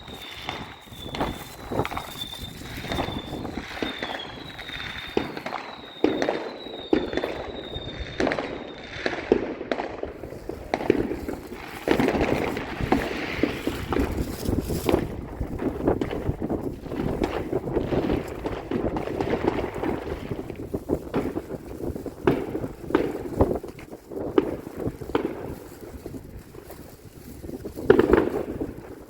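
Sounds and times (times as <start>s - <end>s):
fireworks bangs and cracks: 0.0s - 29.0s.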